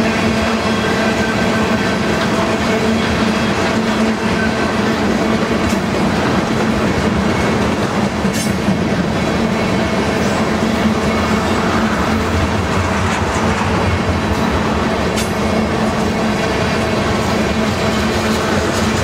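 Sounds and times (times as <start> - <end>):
rhythmic clickety-clack: 0.0 - 19.0
train wheels rumbling on rails: 0.0 - 19.0.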